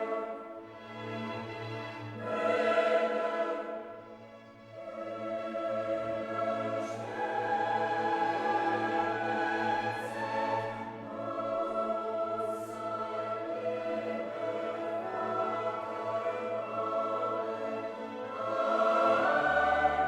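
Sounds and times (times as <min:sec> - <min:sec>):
choral music with orchestra: 0:00.0 - 0:20.0.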